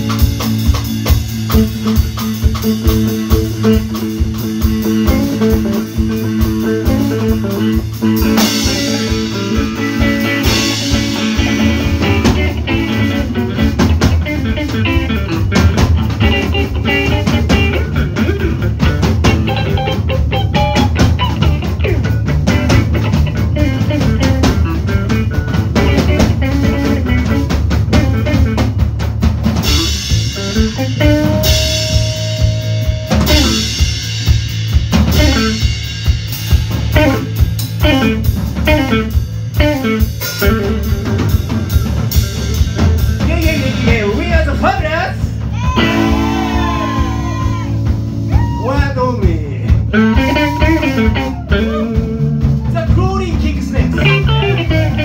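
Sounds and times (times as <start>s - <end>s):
drum kit steady beat: 0.0s - 55.0s
electric guitars: 0.0s - 55.0s.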